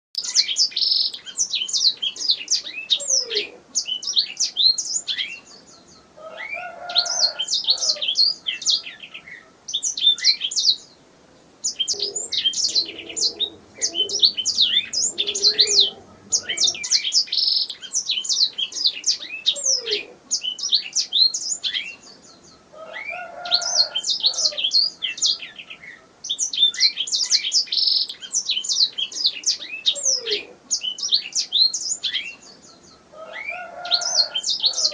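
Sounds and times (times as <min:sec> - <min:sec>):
canary singing: 0:00.2 - 0:10.9, 0:11.6 - 0:34.9.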